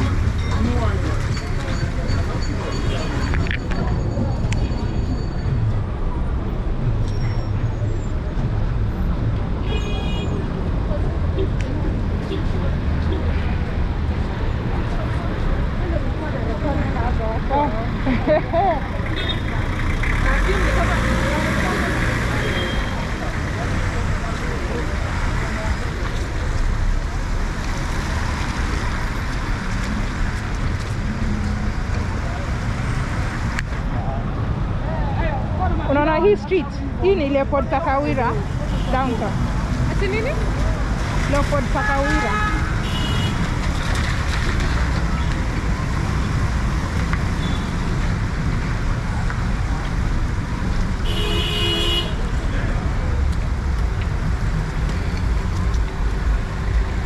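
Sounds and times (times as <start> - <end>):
city traffic in rain: 0.0 - 57.0
passing vehicles rumble: 0.0 - 57.0.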